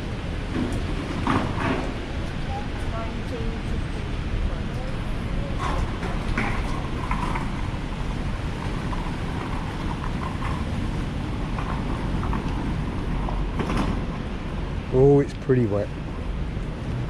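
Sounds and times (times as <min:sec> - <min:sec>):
heavy rain: 0:00.0 - 0:17.0
wet-street traffic: 0:00.0 - 0:17.0.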